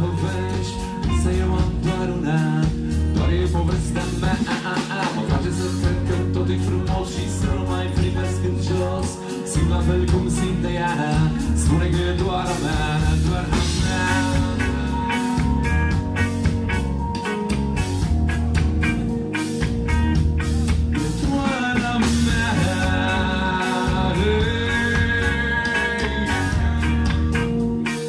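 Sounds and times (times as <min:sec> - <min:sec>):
rock band playing live: 0:00.0 - 0:28.0
steady drum beat: 0:00.0 - 0:28.0.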